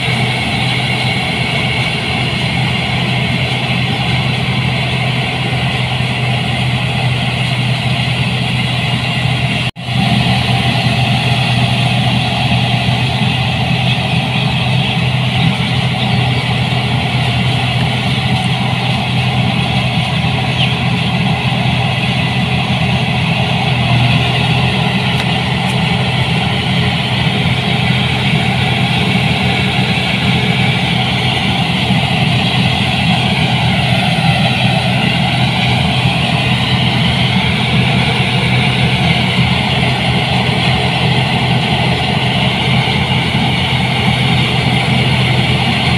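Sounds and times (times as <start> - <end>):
combine harvester engine humming: 0.0 - 45.9.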